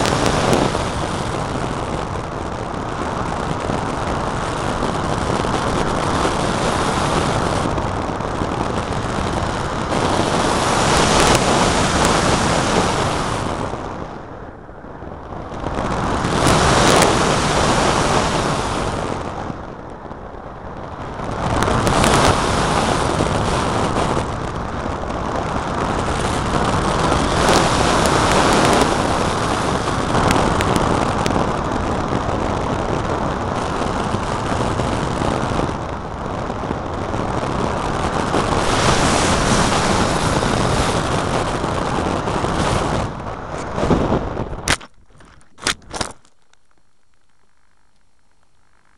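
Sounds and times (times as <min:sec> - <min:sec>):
rushing airflow: 0:00.0 - 0:46.2.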